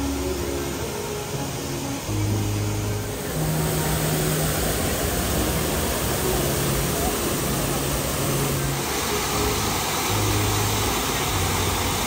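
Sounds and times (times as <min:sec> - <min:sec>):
long held low vocal notes: 0:00.0 - 0:12.0
rushing falling water: 0:00.0 - 0:12.0.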